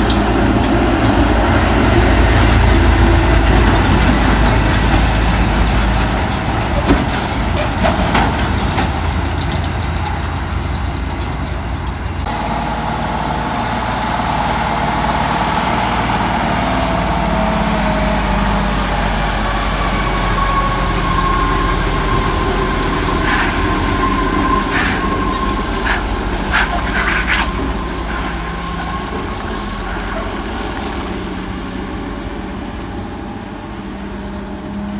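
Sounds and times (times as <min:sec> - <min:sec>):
diesel truck engine under load: 0:00.0 - 0:34.9.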